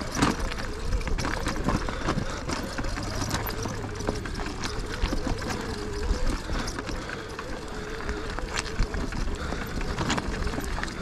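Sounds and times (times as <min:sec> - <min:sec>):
faint wavering whine: 0:00.0 - 0:11.0
tyres clattering over loose rock: 0:00.0 - 0:11.0.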